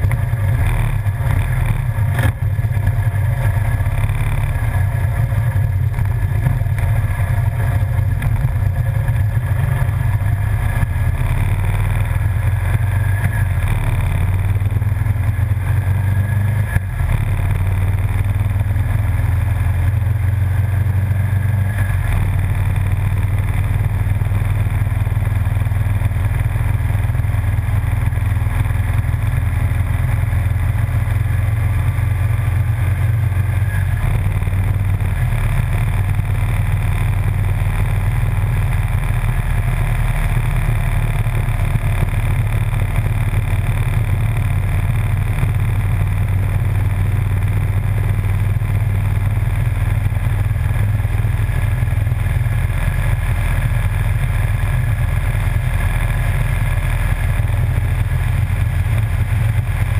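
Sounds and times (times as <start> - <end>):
motorcycle engine rumbling: 0.0 - 59.9
wind and road noise: 0.0 - 59.9.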